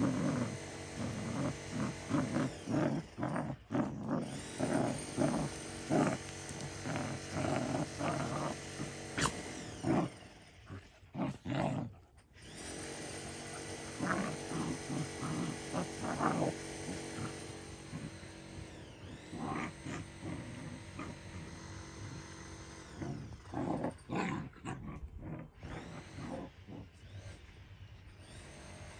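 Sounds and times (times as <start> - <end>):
dogs growling: 0.0 - 27.5.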